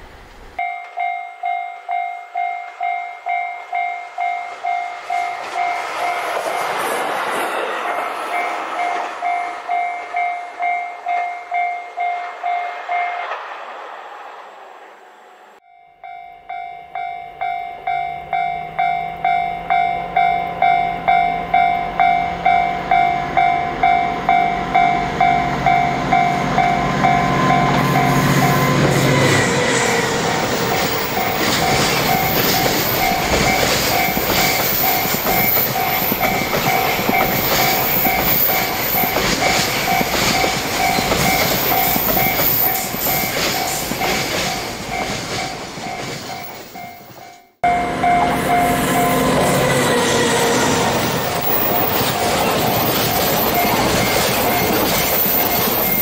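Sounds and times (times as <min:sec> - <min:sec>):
diesel locomotive engine: 0:00.0 - 0:56.0
level crossing warning bell: 0:00.6 - 0:06.4, 0:08.2 - 0:13.4, 0:15.6 - 0:50.4, 0:51.0 - 0:56.0
train wheels clattering on rails: 0:03.6 - 0:14.3, 0:19.8 - 0:56.0.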